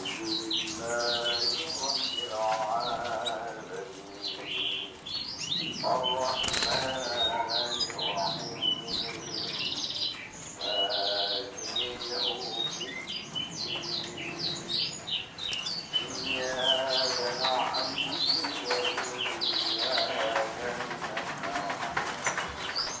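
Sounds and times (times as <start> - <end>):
canary singing: 0.0 - 23.0.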